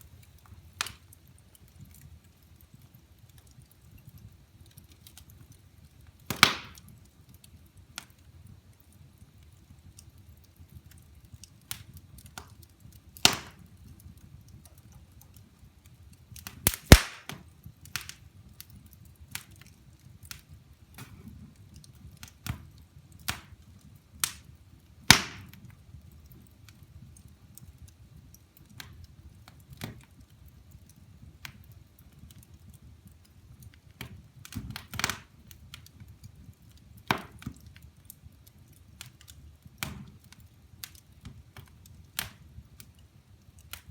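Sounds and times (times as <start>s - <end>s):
firewood crackling and popping: 0.0s - 43.9s
low rumble of flames: 0.0s - 43.9s.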